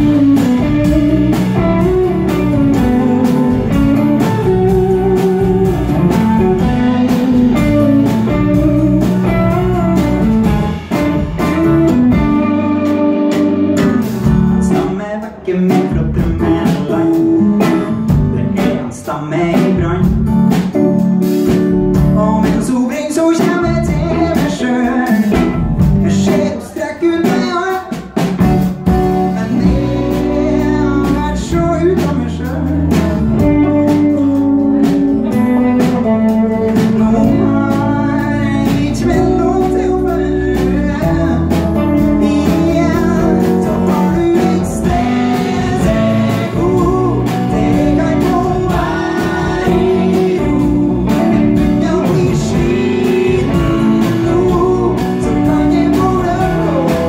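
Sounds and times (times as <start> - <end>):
man singing: 0.0 - 13.0, 14.2 - 20.7, 22.0 - 28.4, 29.0 - 57.0
live rock band playing: 0.0 - 57.0.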